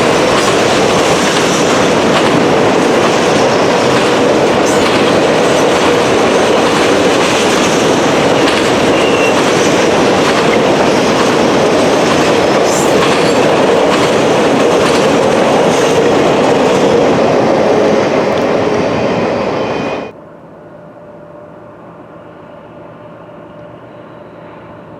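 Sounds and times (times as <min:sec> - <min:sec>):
freight train rumbling past: 0:00.0 - 0:20.2.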